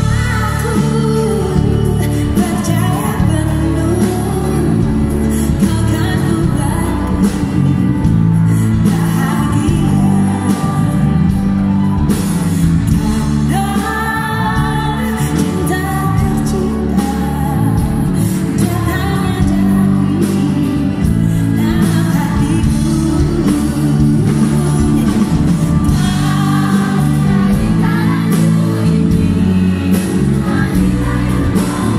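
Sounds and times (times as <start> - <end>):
band playing: 0.0 - 31.9
woman singing into microphone: 0.0 - 31.9.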